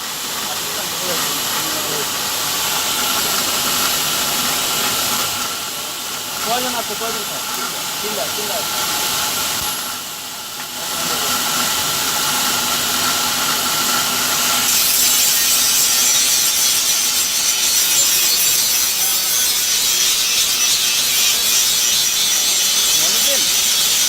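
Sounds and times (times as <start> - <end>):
power tool grinding: 0.0 - 24.0.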